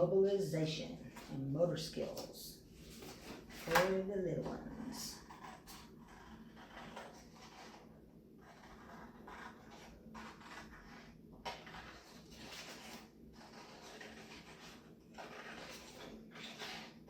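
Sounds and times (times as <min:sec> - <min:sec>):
scissors cutting paper: 0:03.0 - 0:17.0.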